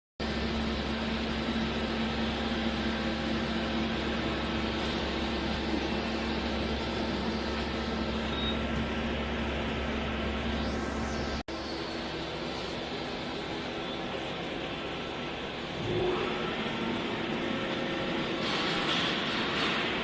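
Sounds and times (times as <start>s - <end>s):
lathe mechanical drone: 0.2s - 20.0s.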